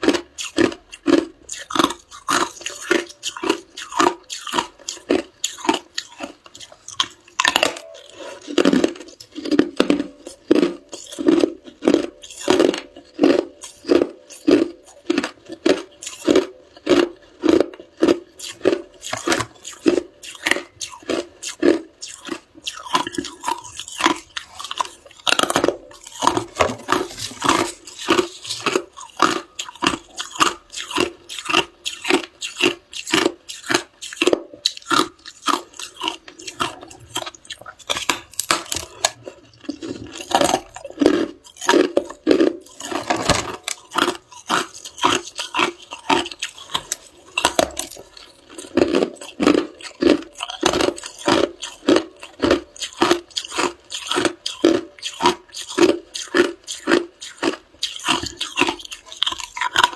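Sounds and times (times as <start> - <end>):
person crunching ice: 0.0 - 59.9.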